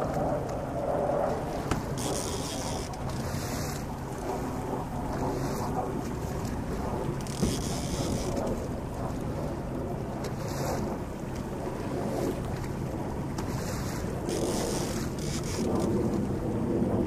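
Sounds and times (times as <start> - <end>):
outboard motor hum: 0.0 - 17.0
water washing against hull: 0.0 - 17.0
wind buffeting microphone: 0.0 - 17.0.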